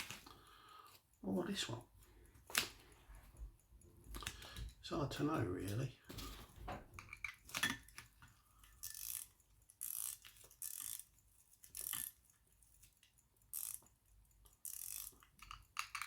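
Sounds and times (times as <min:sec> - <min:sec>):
pocket watch winding ratchet clicks: 0:00.0 - 0:06.1, 0:07.0 - 0:16.0.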